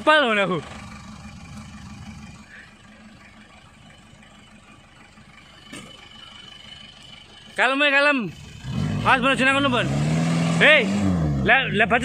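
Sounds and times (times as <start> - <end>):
off-road vehicle engine rumbling: 0.0 - 12.0.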